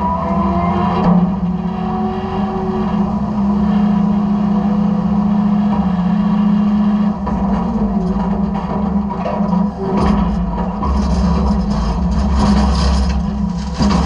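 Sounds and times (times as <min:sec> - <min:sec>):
garbage truck mechanical hum: 0:00.0 - 0:14.0.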